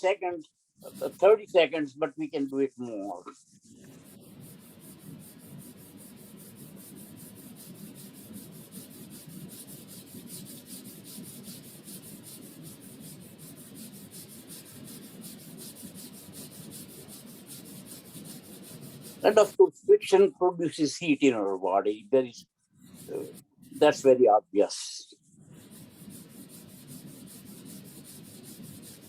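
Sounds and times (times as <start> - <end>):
palms rubbing together: 0.0 - 20.4, 21.0 - 29.0.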